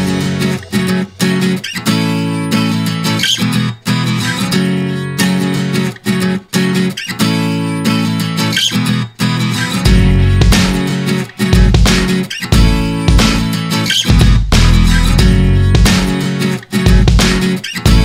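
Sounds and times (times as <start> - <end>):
plucked acoustic guitar music: 0.0 - 18.0.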